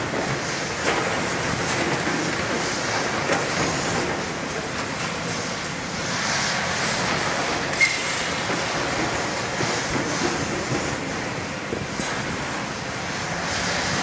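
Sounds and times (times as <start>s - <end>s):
excavator diesel and hydraulic noise: 0.0s - 14.0s.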